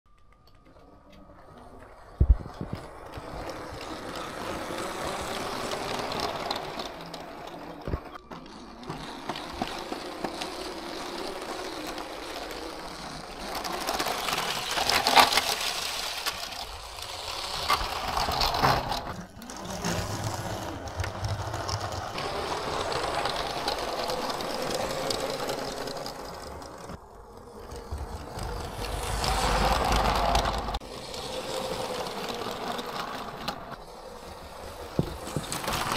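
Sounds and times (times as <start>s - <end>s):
wheels clicking on track: 0.1s - 35.9s
toy train motor whirring: 0.3s - 35.9s.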